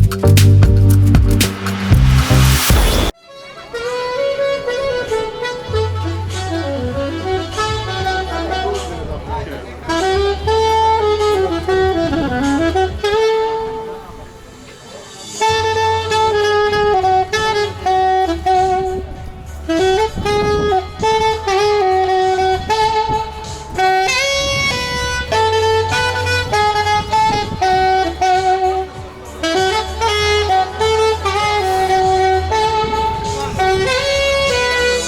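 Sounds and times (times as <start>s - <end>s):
smooth jazz saxophone melody: 0.0s - 35.0s.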